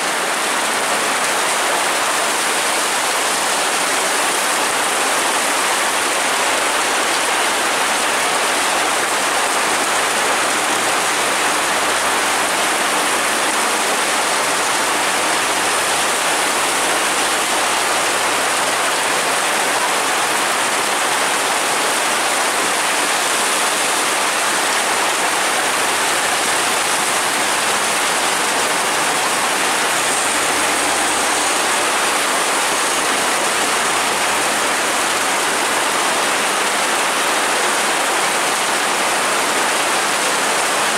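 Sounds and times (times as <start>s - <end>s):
heavy rain on wet road: 0.0s - 40.9s
running water: 0.0s - 40.9s.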